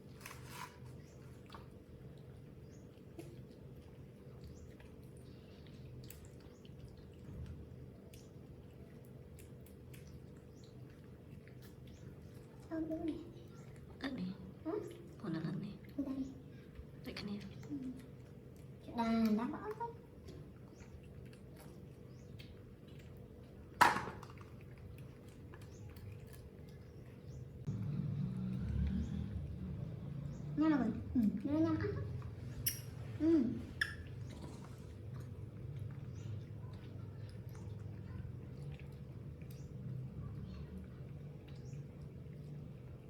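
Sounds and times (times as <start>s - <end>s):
wet clicks of mango eating: 0.0s - 30.6s, 31.2s - 33.0s, 33.7s - 43.0s
low steady hum: 0.0s - 43.0s.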